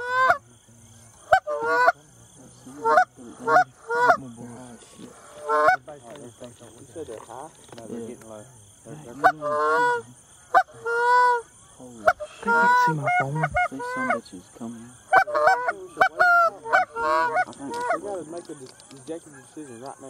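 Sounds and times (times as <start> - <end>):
geese honking: 0.0 - 7.2, 7.9 - 20.0.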